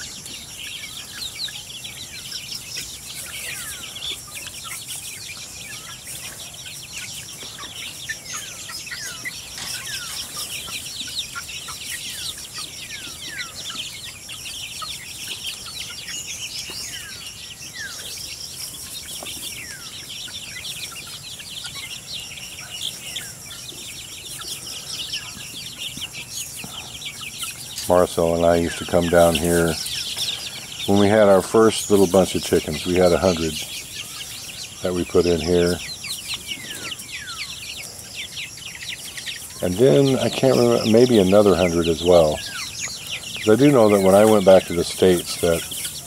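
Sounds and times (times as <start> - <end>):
chicks peeping: 0.0 - 46.0.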